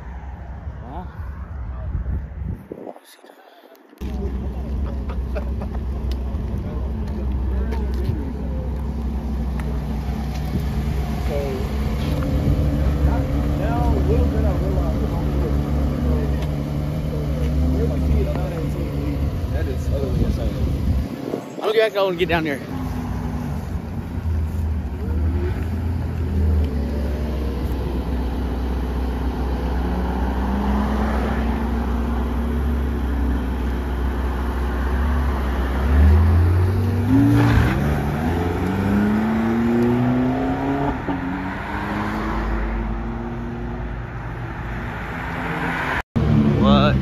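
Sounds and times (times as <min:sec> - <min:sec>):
car engine idling and revving: 0:03.8 - 0:47.0.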